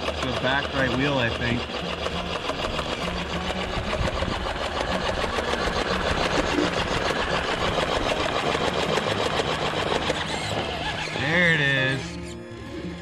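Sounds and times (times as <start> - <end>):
fast even rattle: 0.0 - 12.4
electric motor whirring: 0.0 - 13.0.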